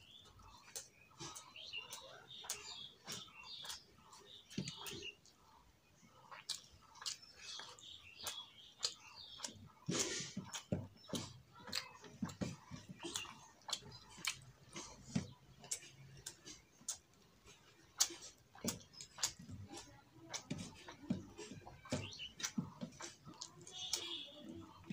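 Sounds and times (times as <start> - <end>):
fingers mixing rice on plate: 0.1 - 24.9
wet chewing smacks: 0.1 - 24.9.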